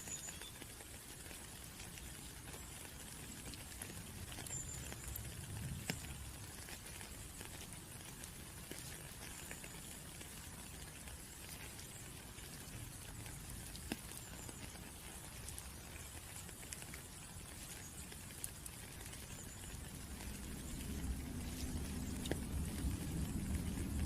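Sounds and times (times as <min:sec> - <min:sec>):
raindrops pattering: 0:00.0 - 0:24.0.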